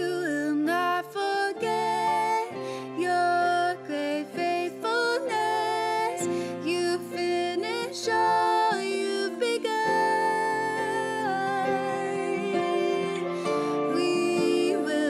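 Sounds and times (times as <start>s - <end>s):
women singing: 0.0s - 15.0s.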